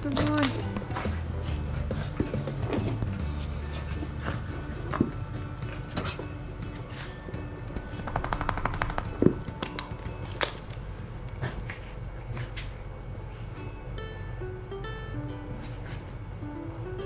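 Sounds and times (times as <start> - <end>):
background music: 0.0 - 11.3, 13.6 - 17.0.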